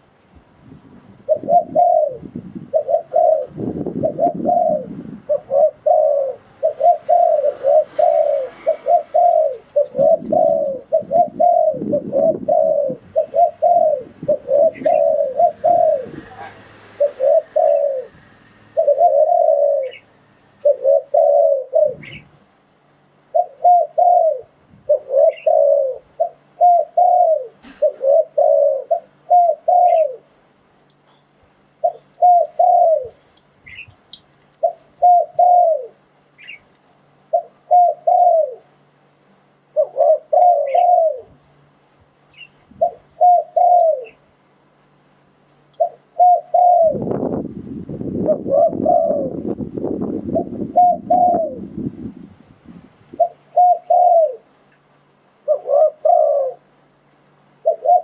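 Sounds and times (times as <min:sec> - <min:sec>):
dove cooing: 0:01.2 - 0:22.4, 0:23.2 - 0:30.4, 0:31.7 - 0:33.9, 0:34.6 - 0:36.7, 0:37.3 - 0:38.8, 0:39.7 - 0:41.4, 0:42.4 - 0:44.2, 0:45.8 - 0:52.3, 0:53.1 - 0:54.5, 0:55.4 - 0:56.8, 0:57.6 - 0:58.0.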